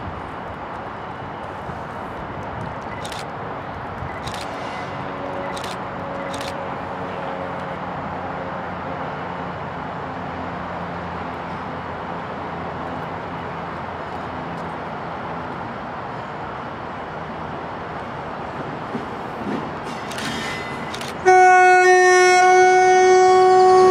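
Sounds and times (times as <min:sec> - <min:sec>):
diesel locomotive engine drone: 0:00.0 - 0:23.9.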